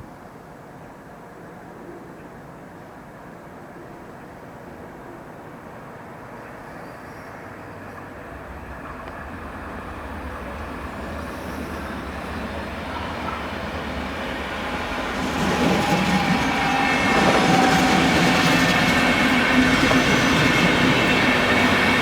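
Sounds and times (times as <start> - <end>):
train approaching: 2.8 - 22.0.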